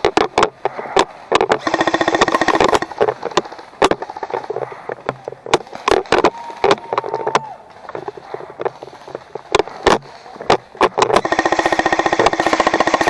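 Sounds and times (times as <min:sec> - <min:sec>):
camera rattling in mount: 0:00.0 - 0:13.0.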